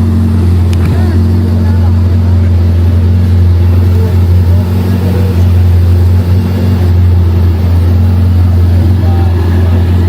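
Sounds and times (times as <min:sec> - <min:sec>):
engine droning steadily: 0:00.0 - 0:10.0.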